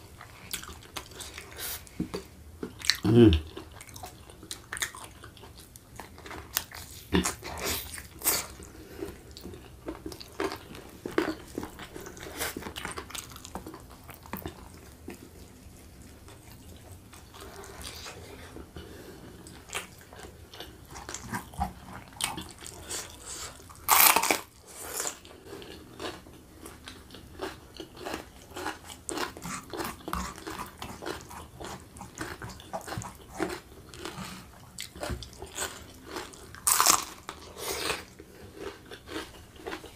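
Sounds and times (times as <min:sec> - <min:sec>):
man chewing with mouth full: 0:00.0 - 0:39.9.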